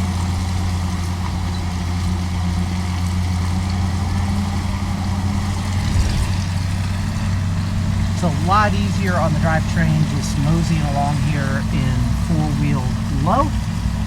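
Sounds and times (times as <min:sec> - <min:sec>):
truck engine low drone: 0:00.0 - 0:14.0.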